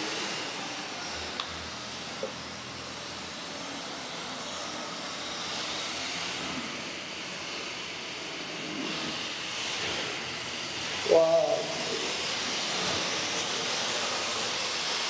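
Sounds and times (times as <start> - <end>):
model train whirring: 0.0 - 15.0.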